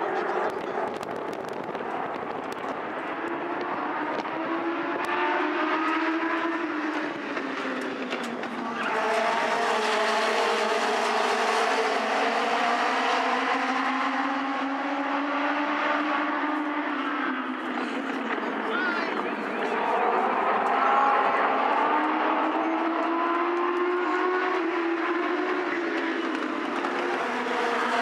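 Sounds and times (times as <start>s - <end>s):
race cars racing past: 0.0s - 28.0s.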